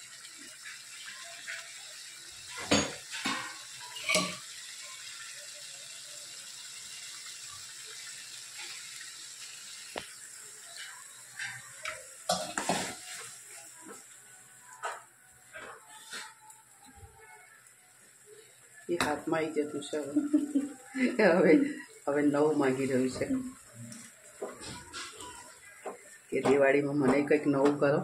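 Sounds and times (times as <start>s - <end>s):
food sizzling in pan: 0.0s - 28.0s.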